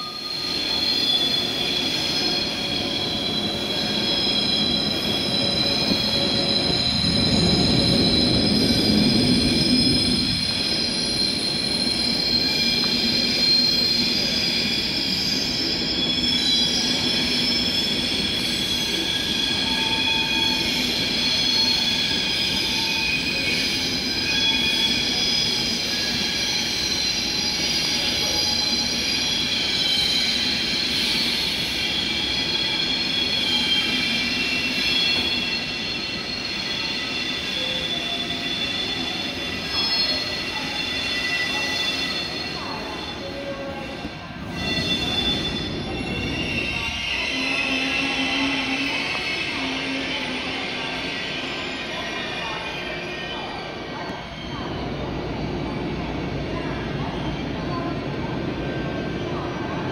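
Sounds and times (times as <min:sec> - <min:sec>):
train wheels squealing: 0:00.0 - 0:59.9.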